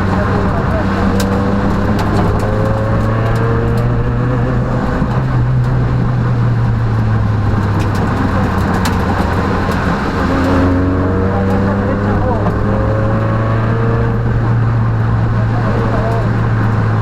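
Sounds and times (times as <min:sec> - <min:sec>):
car engine running: 0:00.0 - 0:17.0
road and tyre noise: 0:00.0 - 0:17.0.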